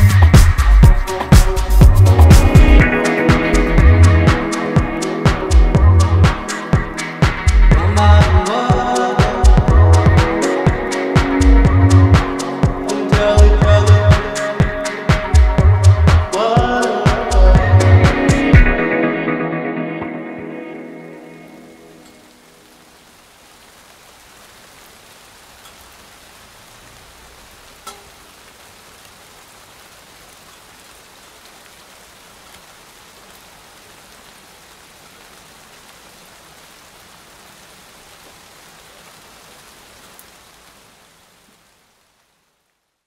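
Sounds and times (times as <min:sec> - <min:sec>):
steady rain falling: 0:00.0 - 0:19.3, 0:20.0 - 0:43.0.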